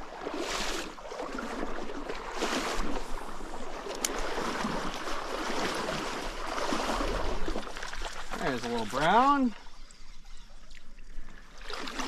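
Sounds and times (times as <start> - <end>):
stream water running and splashing: 0.0 - 12.0.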